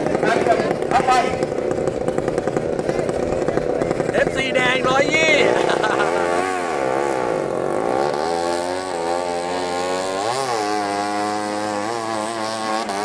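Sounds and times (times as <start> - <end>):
boat engine running hard: 0.0 - 13.0.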